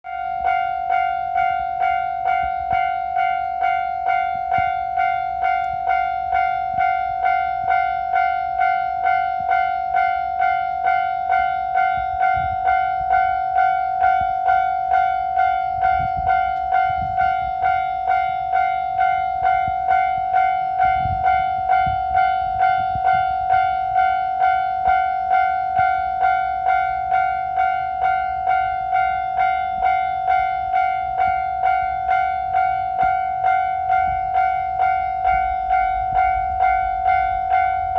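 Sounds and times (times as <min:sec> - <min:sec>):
diesel railcar rumble: 0:00.0 - 0:37.9
level crossing bell ringing: 0:00.1 - 0:37.9.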